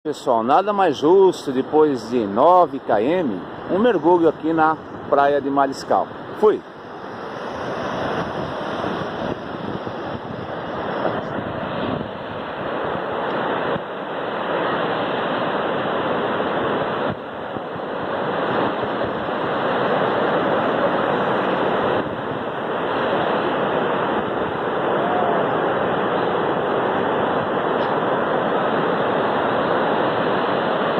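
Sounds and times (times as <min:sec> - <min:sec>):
ocean waves breaking: 0:00.1 - 0:30.9.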